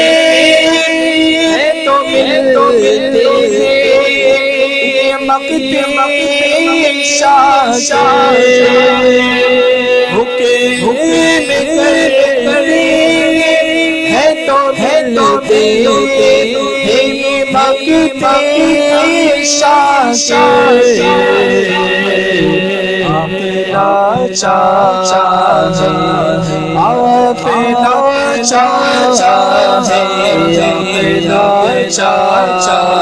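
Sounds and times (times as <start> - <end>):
chanted vocal drone: 0.0 - 33.0
man singing lead into microphone: 0.0 - 33.0.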